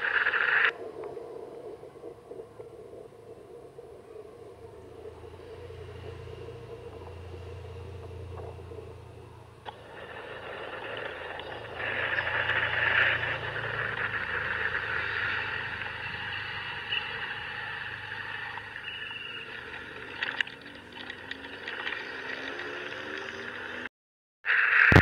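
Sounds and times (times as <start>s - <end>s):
road and wind noise: 0.7s - 23.9s
motor scooter engine hum: 1.0s - 23.8s.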